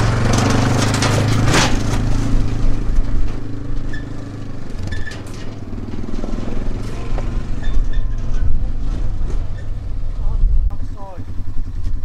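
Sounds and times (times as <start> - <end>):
clanks and rattles: 0.0 - 10.2
diesel engine droning: 0.0 - 12.0.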